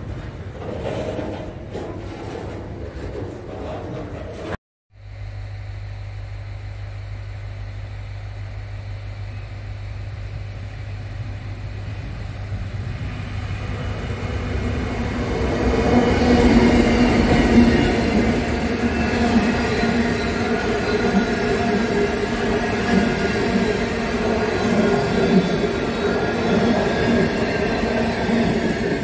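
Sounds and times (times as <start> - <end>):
carriages rumbling on rails: 0.0 - 4.6, 10.0 - 29.0
diesel locomotive engine hum: 2.6 - 29.0.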